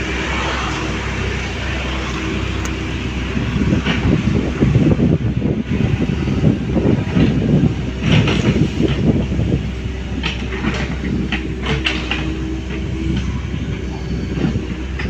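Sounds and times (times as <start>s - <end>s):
excavator diesel engine rumbling: 0.0s - 15.0s.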